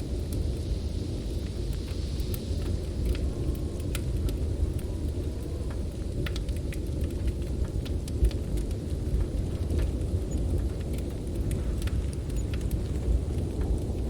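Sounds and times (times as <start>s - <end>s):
storm wind roaring: 0.0s - 14.0s
wood fire crackling: 0.0s - 14.0s.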